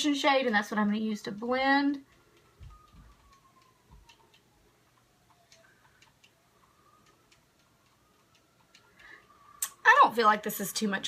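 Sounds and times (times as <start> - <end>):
faint ticks and clicks: 0.3 - 10.9.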